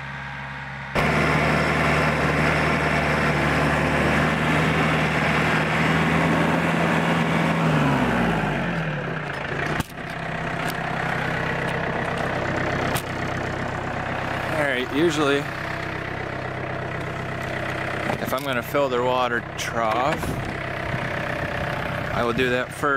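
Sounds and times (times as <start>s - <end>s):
tractor diesel engine: 0.0s - 22.9s.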